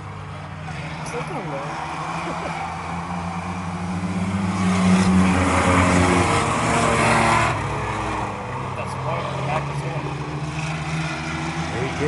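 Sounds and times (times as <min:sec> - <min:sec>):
race truck engines passing: 0:00.0 - 0:12.0.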